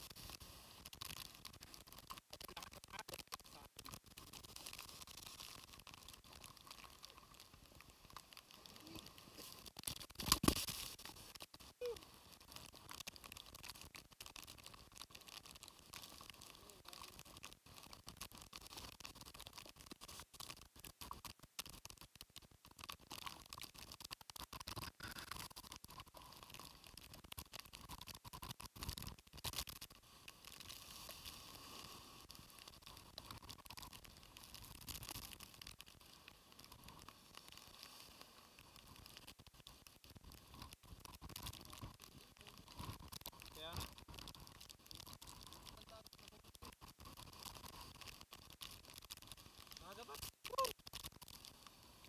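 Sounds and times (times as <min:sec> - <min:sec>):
wind and rain on microphone: 0:00.0 - 0:52.0.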